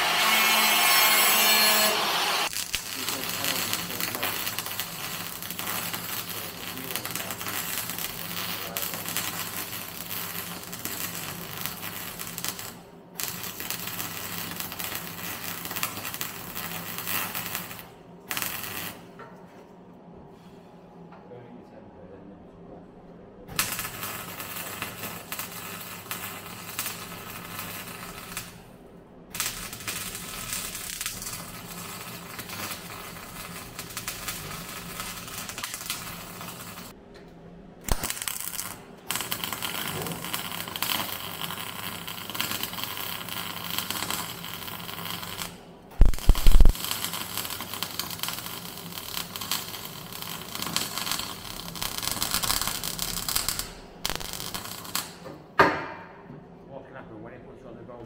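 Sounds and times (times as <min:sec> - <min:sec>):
welder arc crackling: 0:00.0 - 0:19.1, 0:23.5 - 0:28.7, 0:29.3 - 0:37.0, 0:37.9 - 0:55.4.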